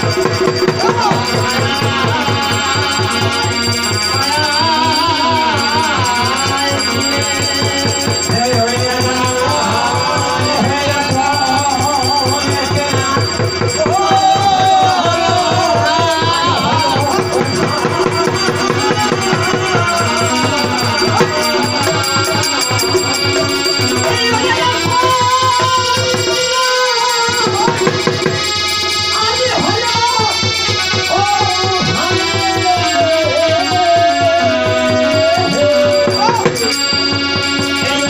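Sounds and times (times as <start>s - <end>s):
fast drum beat: 0.0s - 38.0s
wavering melody line: 0.0s - 38.0s.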